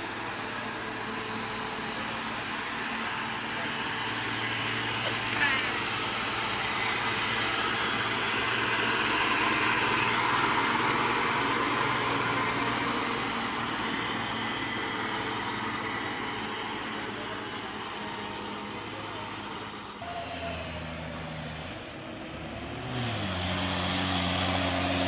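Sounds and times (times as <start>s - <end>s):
heavy equipment engine running: 0.0s - 25.0s.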